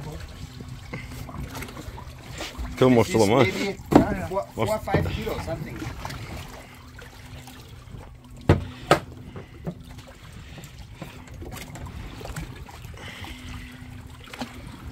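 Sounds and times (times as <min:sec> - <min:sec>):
boat engine low hum: 0:00.0 - 0:14.9.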